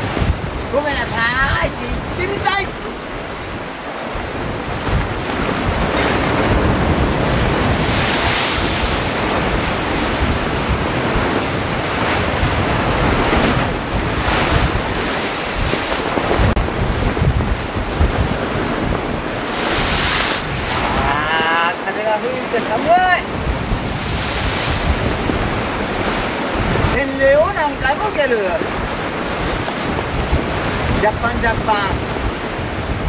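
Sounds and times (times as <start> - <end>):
surf breaking on rocks: 0.0 - 33.0
wind buffeting microphone: 0.0 - 33.0.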